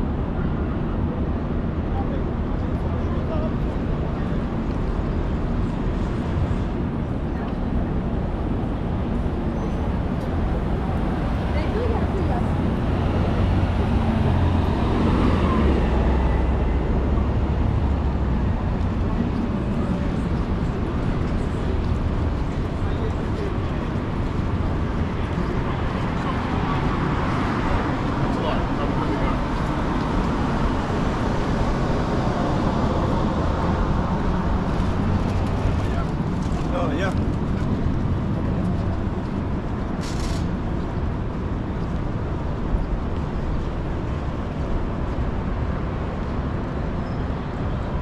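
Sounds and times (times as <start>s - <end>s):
low engine rumble: 0.0s - 48.0s
road noise: 0.0s - 48.0s
vehicle engines: 0.0s - 48.0s.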